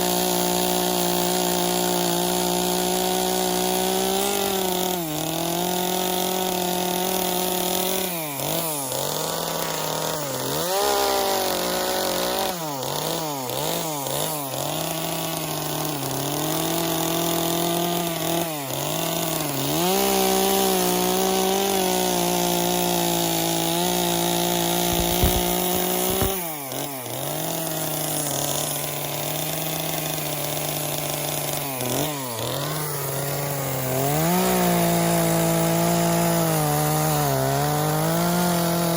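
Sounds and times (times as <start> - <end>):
chainsaw carving wood: 0.0 - 38.9.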